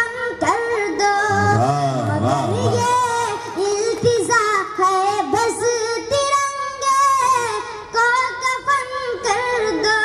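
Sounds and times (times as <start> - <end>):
boy singing into a microphone: 0.0 - 10.0.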